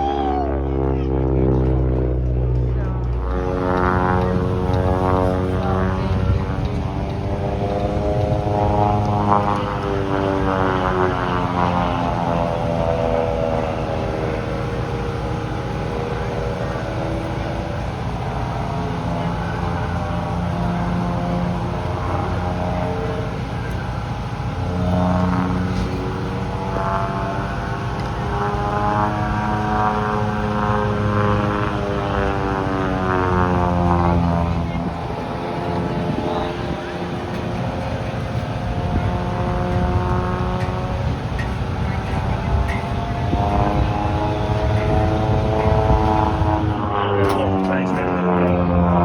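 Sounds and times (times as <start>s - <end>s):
propeller airplane engine overhead: 0.0s - 49.0s.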